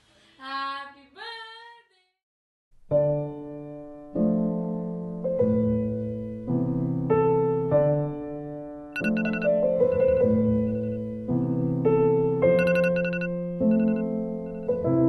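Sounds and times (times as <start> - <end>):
slow piano chords: 2.9 - 15.0.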